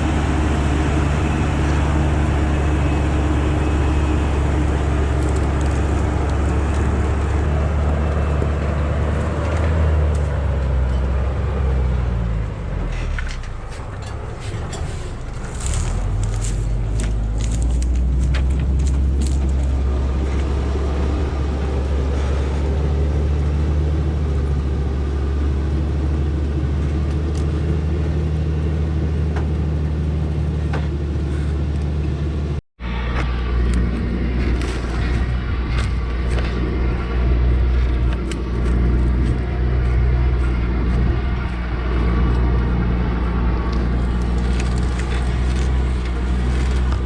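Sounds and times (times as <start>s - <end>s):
truck engine droning: 0.0s - 47.0s.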